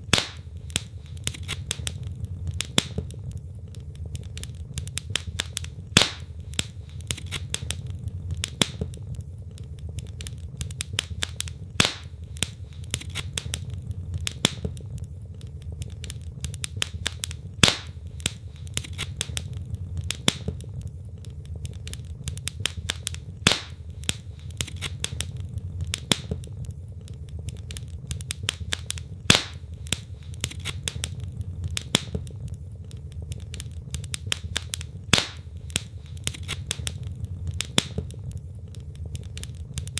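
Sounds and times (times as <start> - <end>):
logs crackling and popping: 0.0 - 39.9
rumble of flames: 0.0 - 39.9.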